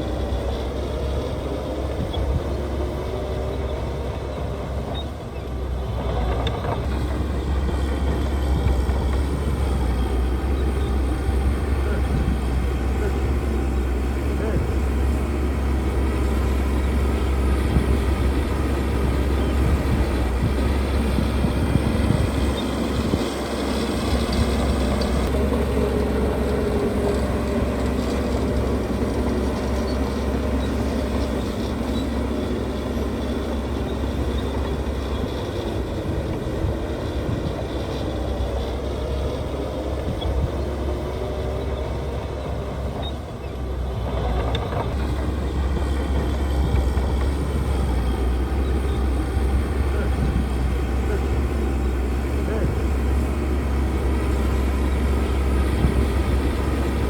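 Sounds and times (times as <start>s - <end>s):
heavy diesel machinery rumbling: 0.0s - 57.0s.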